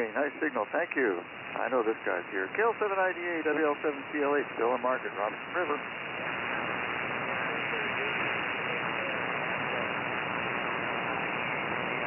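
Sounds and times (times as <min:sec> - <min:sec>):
faint voice on radio: 0:00.0 - 0:11.5
radio static hiss: 0:00.0 - 0:12.0.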